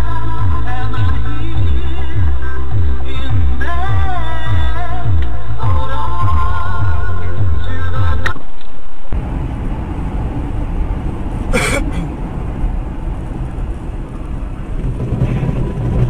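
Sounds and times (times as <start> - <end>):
vehicle road and engine rumble: 0.0 - 16.0.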